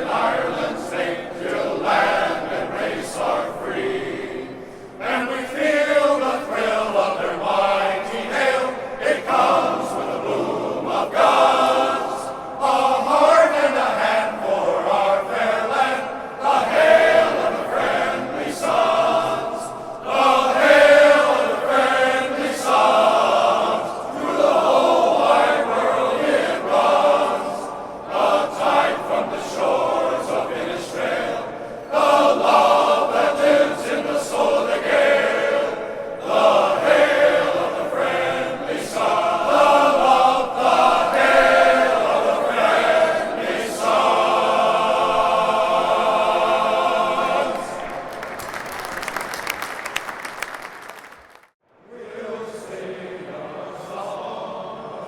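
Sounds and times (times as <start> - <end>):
men's choir singing: 0.0 - 48.4, 51.8 - 55.0.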